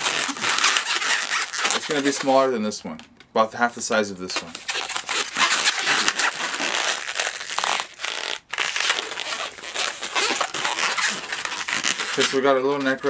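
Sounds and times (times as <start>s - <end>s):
balloon being rubbed and twisted: 0.0s - 2.5s, 4.3s - 13.0s.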